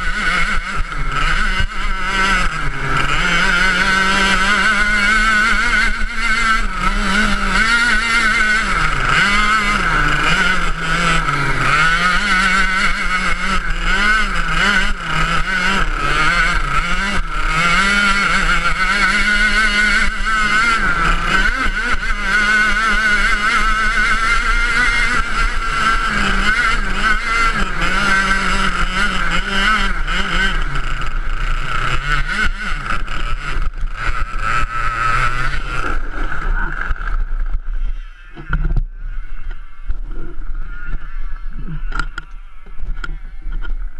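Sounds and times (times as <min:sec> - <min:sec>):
kart engine at full throttle: 0:00.0 - 0:43.9.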